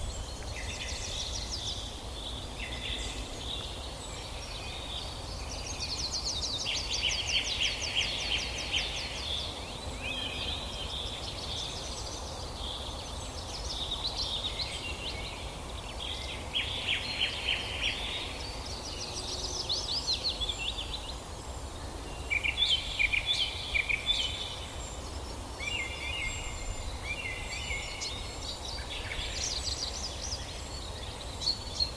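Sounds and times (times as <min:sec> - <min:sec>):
songbird singing trills: 0:00.0 - 0:31.9.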